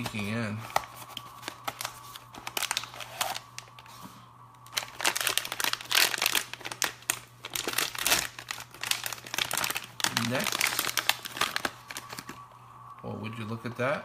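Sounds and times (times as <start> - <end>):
packaging crinkling and tearing: 0.0 - 3.9, 4.6 - 12.4.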